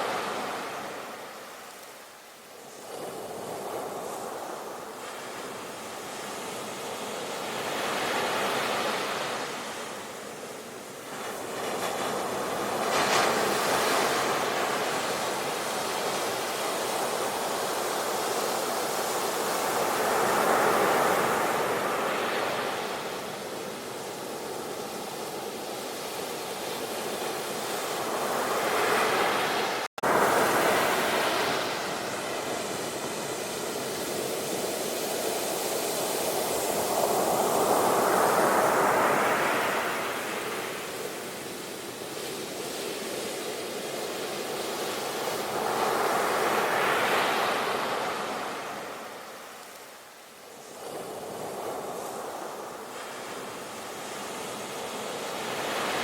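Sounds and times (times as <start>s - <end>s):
waves breaking and washing in: 0.0s - 56.0s.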